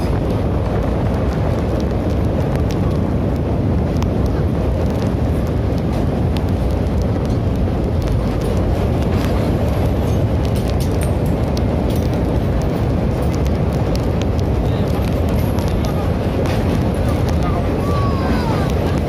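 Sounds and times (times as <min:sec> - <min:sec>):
train rumble inside coach: 0:00.0 - 0:19.0
wind on microphone: 0:00.0 - 0:19.0.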